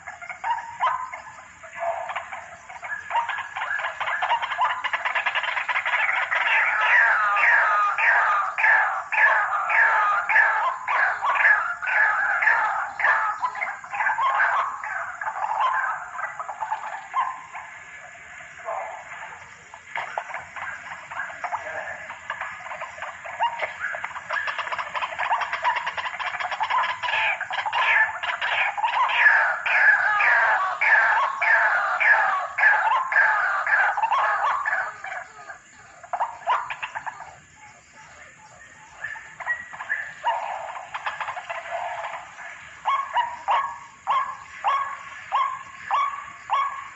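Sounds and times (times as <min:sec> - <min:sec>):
bird chattering calls: 0:00.0 - 0:46.9
waterhen harsh calls: 0:00.0 - 0:46.9.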